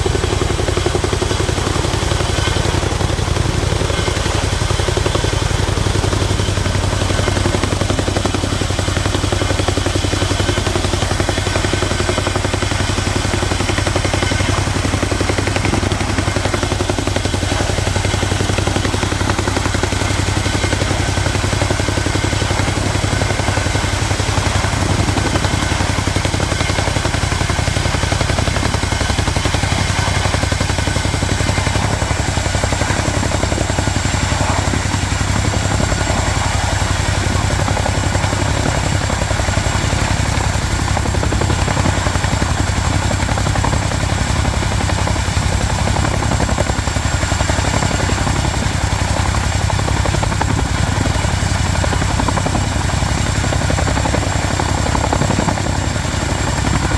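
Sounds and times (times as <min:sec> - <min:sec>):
helicopter rotors thrumming: 0:00.0 - 0:56.9
turbine whine: 0:00.0 - 0:56.9.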